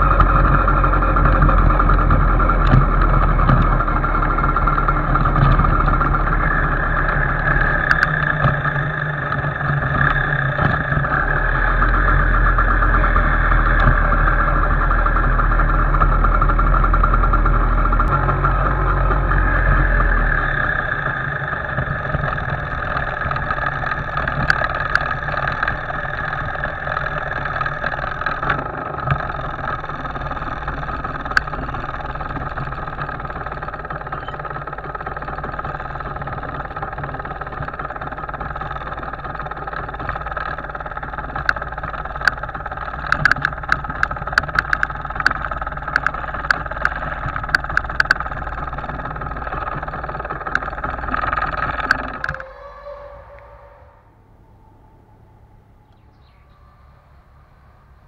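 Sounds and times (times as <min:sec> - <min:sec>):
sharp clicks and rattles: 0:00.0 - 0:53.6
two-stroke motorcycle engine: 0:00.0 - 0:58.0.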